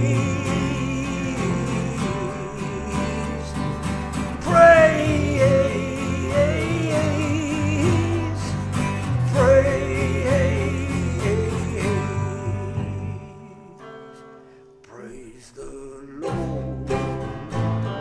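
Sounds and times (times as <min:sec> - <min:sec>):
person singing long notes: 0:00.0 - 0:03.7, 0:04.4 - 0:14.1, 0:14.9 - 0:17.6
guitar over bass: 0:00.0 - 0:14.8, 0:16.2 - 0:18.0.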